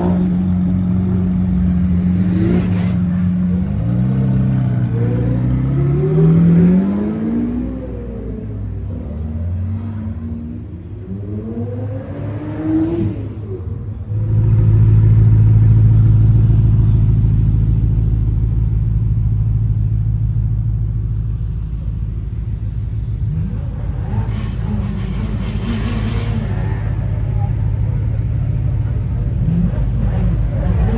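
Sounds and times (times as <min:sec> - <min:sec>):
car engine revving: 0:00.0 - 0:19.4, 0:23.2 - 0:30.9.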